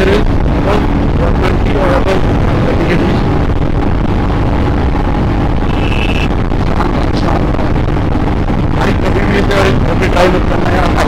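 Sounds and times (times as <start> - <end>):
motorcycle engine running hard: 0.0 - 11.0
wind rushing over microphone: 0.0 - 11.0.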